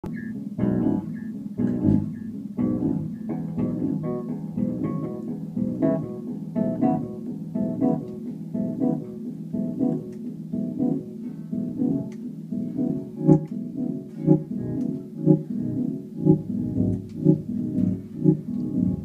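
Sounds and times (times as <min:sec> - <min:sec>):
electric bass guitar plucked: 0:00.0 - 0:19.0.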